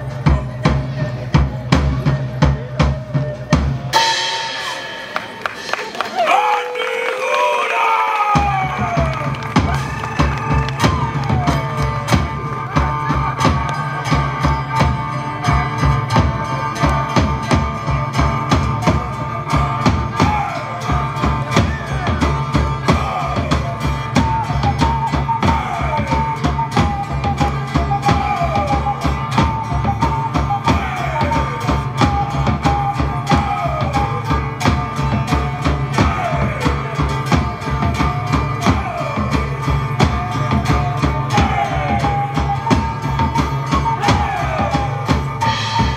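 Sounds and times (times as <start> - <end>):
drum kit beat: 0.0 - 6.4, 8.3 - 45.9
live band music: 0.0 - 45.9.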